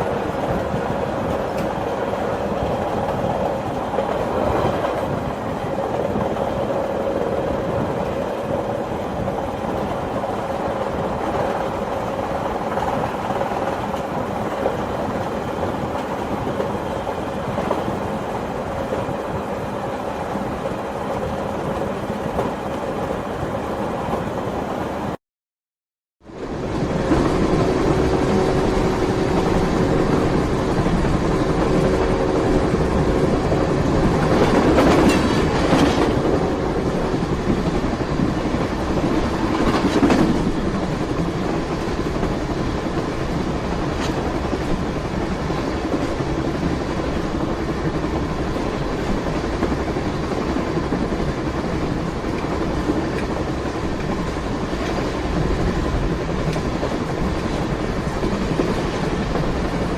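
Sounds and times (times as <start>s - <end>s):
train running on rails: 0.0s - 25.2s, 26.2s - 59.9s.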